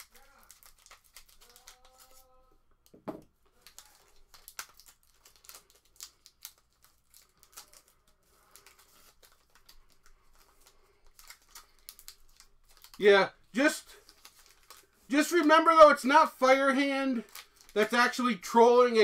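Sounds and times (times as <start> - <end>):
plastic wrapper crinkling and tearing: 0.0 - 19.0.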